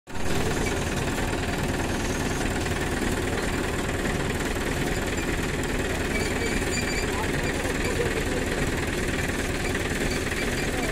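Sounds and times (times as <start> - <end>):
tractor diesel engine running: 0.1 - 10.9.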